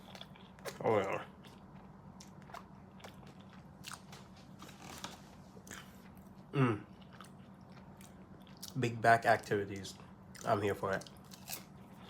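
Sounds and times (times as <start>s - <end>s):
chewing crunchy pastry: 0.0s - 12.0s.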